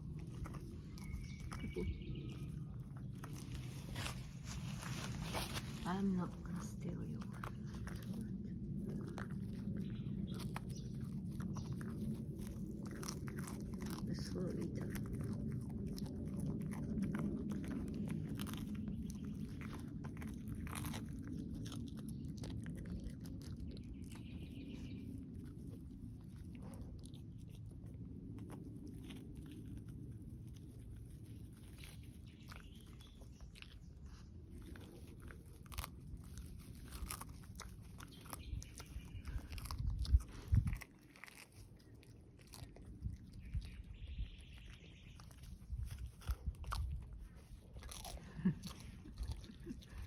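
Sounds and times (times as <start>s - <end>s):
dog crunching a treat: 0.0s - 50.0s
steady low hum: 0.0s - 50.0s.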